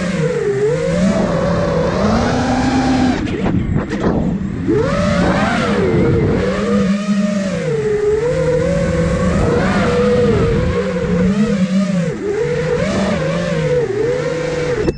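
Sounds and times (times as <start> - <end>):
quadcopter motors whining: 0.0 - 14.9.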